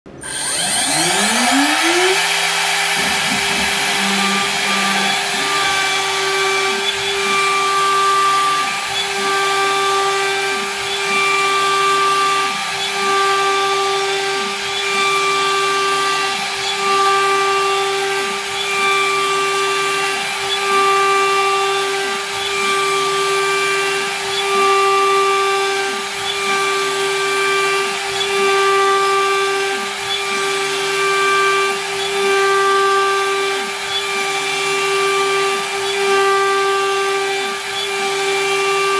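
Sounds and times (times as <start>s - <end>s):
end mill cutting plywood: 0.1s - 38.9s
router spindle whine: 0.1s - 38.9s.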